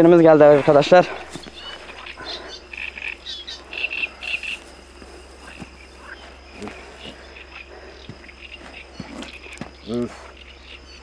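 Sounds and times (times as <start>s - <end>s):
frogs calling: 0.0s - 11.0s
high insect trill: 0.0s - 11.0s.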